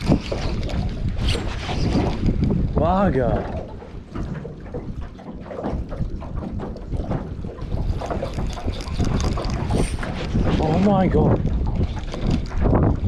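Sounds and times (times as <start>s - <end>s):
water lapping: 0.0s - 13.0s
wind buffeting microphone: 0.0s - 13.0s.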